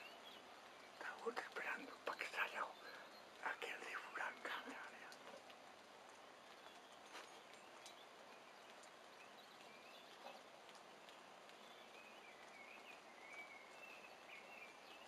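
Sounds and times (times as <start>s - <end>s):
faint outdoor hiss: 0.0s - 15.0s
faint soft ticks: 0.0s - 15.0s.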